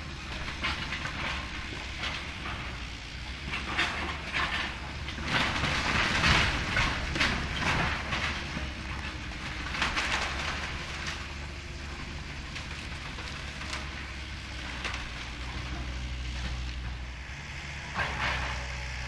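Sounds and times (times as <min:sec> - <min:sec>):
diesel engine running: 0:00.0 - 0:19.0
debris crunching and clattering: 0:00.2 - 0:18.8.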